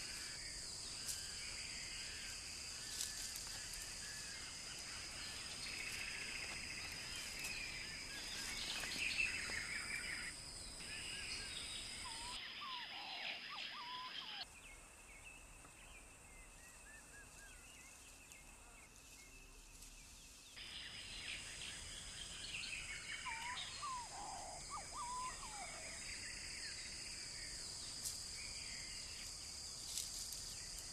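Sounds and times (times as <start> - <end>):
birds chirping: 0.0 - 30.9
insect-like whine and hiss: 0.0 - 30.9.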